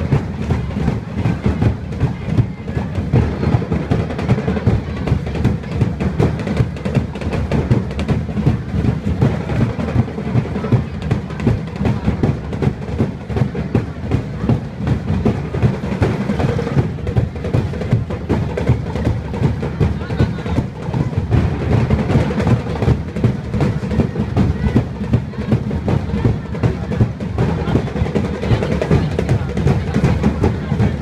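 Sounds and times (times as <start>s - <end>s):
drum ensemble drumming fast: 0.0s - 31.0s.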